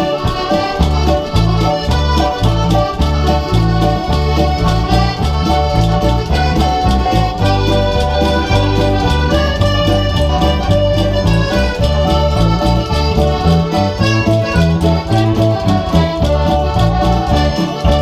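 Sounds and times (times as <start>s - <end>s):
accordions playing dance tune: 0.0s - 18.0s
electric bass guitar: 0.0s - 18.0s
keyboard: 0.0s - 18.0s.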